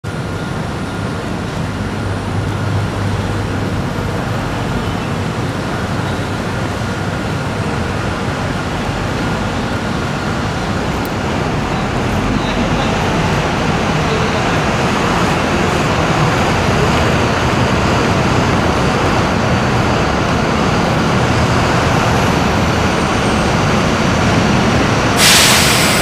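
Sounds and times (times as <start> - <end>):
buses running: 0.0 - 26.0
traffic noise: 0.0 - 26.0.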